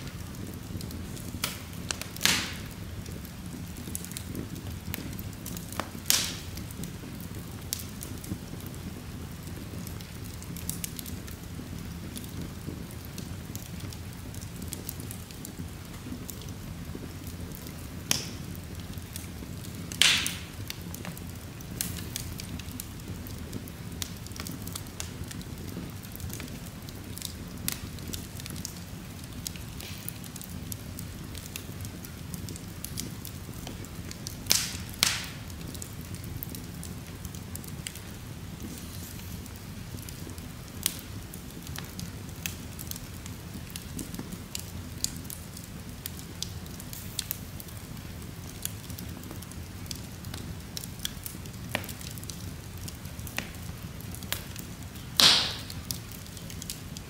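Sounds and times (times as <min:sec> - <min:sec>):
fire crackles and pops: 0:00.0 - 0:57.0
low rustle of flames: 0:00.0 - 0:57.0.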